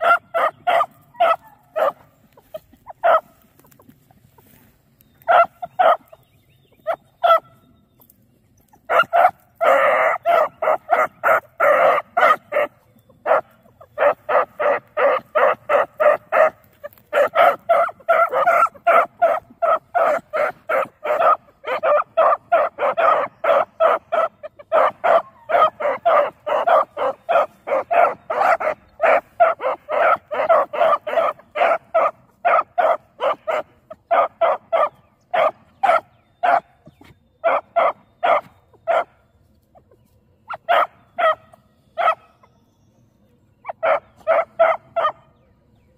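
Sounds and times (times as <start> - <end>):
puppies yipping: 0.0 - 45.4.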